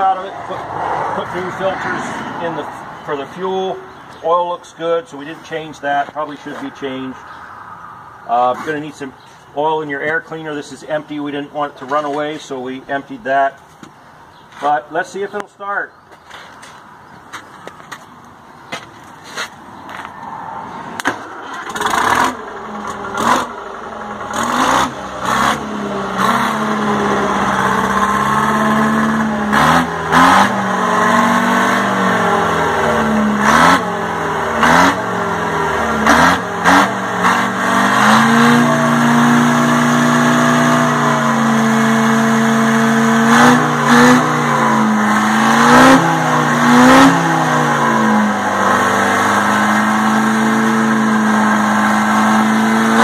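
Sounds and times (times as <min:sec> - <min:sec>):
diesel engine revving and idling: 0:00.0 - 0:13.4, 0:19.3 - 0:53.0.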